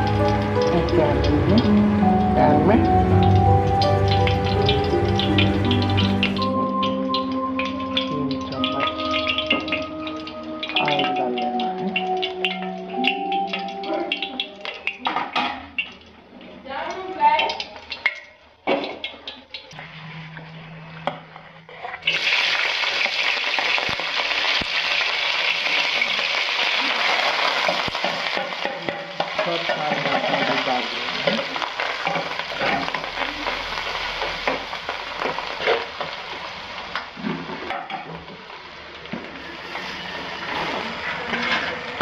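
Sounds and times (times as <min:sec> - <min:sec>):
vegetables sizzling in hot oil: 0:00.0 - 0:19.6, 0:22.1 - 0:42.0.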